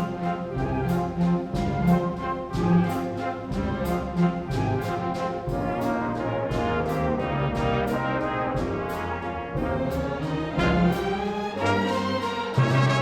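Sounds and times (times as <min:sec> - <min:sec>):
brass playing sustained chords: 0:00.0 - 0:13.0
high sharp percussion beat: 0:00.0 - 0:13.0.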